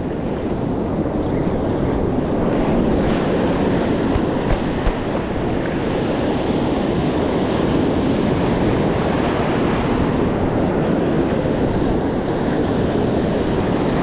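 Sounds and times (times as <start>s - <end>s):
surf breaking on shore: 0.0s - 14.0s
wind buffeting microphone: 0.0s - 14.0s.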